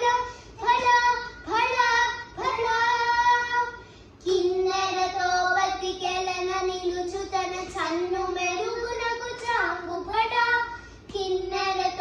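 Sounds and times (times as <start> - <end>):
girls singing together: 0.0 - 12.0.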